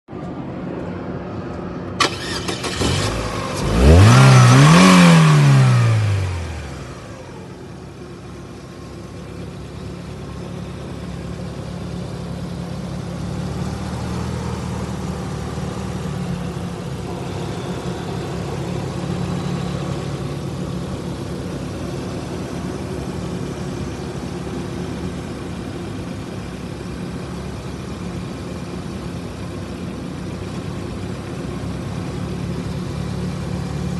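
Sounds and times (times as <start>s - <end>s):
car engine idling: 0.8s - 33.9s
car engine cranking and starting: 1.9s - 33.9s.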